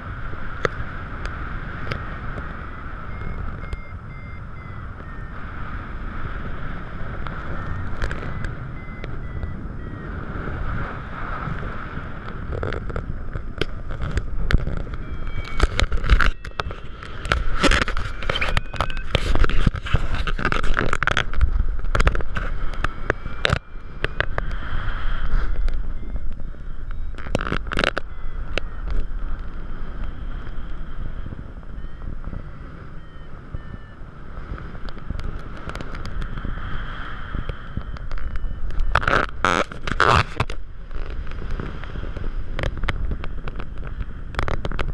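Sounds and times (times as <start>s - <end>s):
wind buffeting microphone: 0.0s - 44.9s
variometer beeping: 0.4s - 44.9s.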